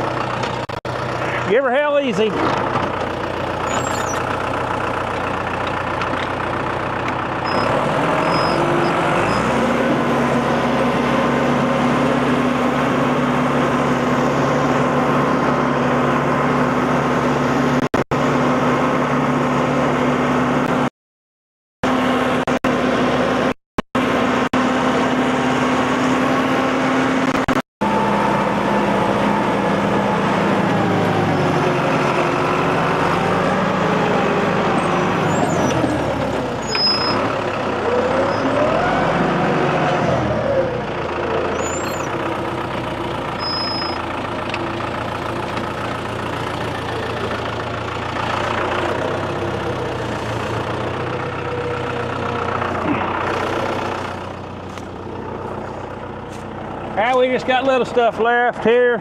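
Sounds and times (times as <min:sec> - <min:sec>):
tractor diesel engine revving: 0:00.0 - 0:20.9, 0:21.8 - 0:59.0.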